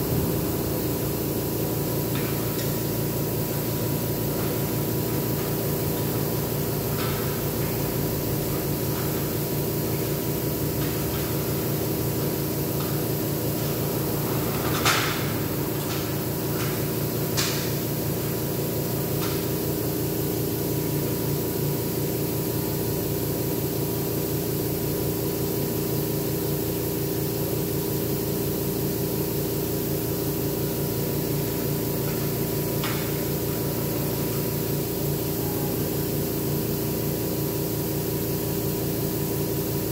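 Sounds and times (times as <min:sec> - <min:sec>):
air compressor humming and hissing: 0:00.0 - 0:39.9.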